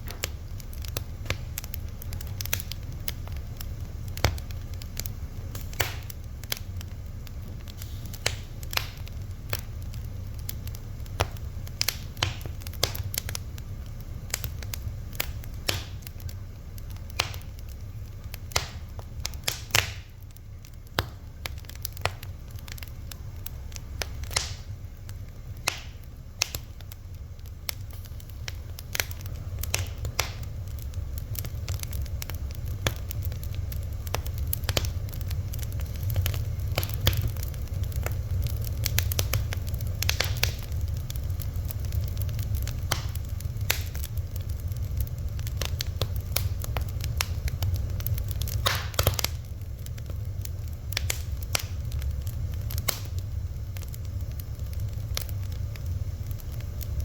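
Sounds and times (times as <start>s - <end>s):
fire crackling and popping: 0.0s - 57.0s
steady low rumble: 0.0s - 57.0s.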